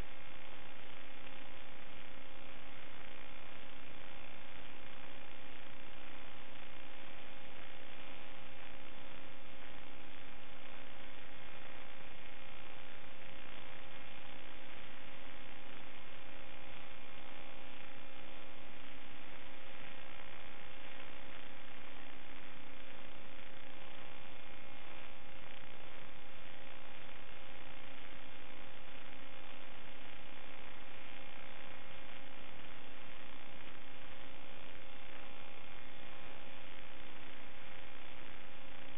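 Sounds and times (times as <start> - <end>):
electronic hiss and hum: 0.0 - 38.9.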